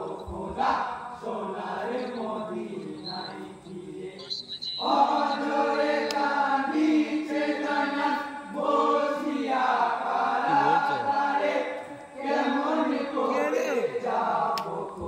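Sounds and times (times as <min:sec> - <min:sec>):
men chanting a mourning song: 0:00.0 - 0:15.0.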